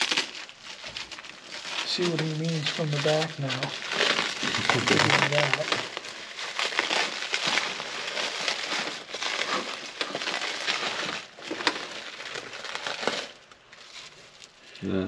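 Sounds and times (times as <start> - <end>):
packaging crinkling and rustling: 0.0 - 14.8
small crackles and clicks: 0.0 - 14.8.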